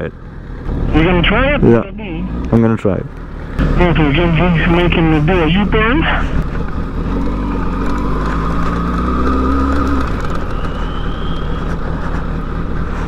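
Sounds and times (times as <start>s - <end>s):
motorcycle engine at low revs: 2.3s - 13.0s.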